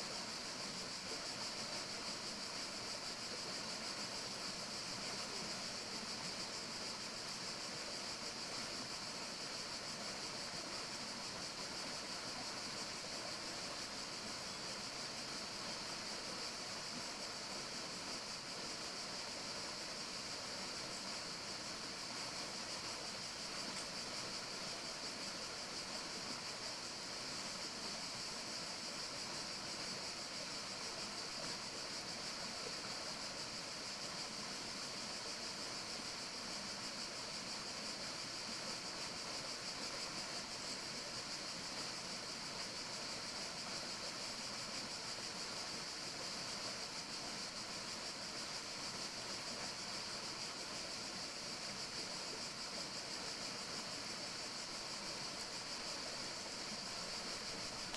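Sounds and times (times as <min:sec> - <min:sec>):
forest ambience hiss: 0:00.0 - 0:57.9.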